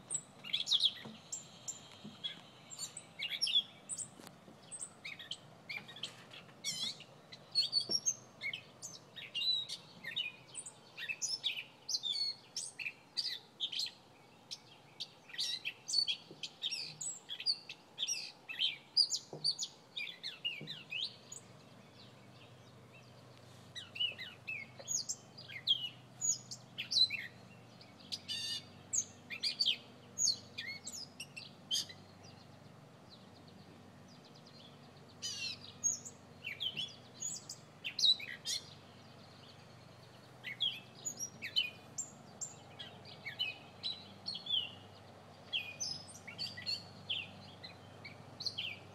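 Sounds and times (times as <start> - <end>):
bird chirping: 0.0 - 48.9.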